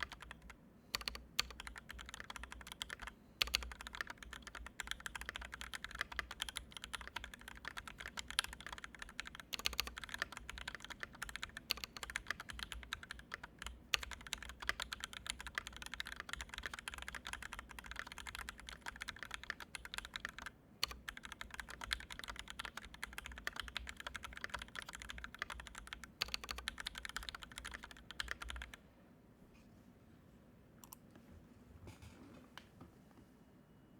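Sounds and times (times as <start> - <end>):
faint keyboard clicks: 0.0 - 28.8, 30.8 - 31.3
fast typing on mechanical keyboard: 0.0 - 28.8.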